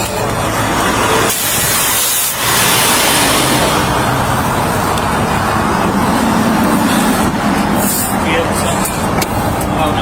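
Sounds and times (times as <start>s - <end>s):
highway traffic rushing: 0.0s - 10.0s.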